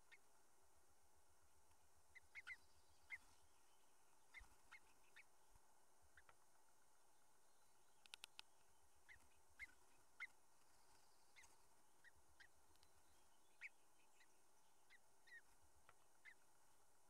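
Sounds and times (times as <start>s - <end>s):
faint bird chirps: 0.0s - 0.4s, 2.0s - 17.0s
quiet hiss: 0.0s - 17.0s.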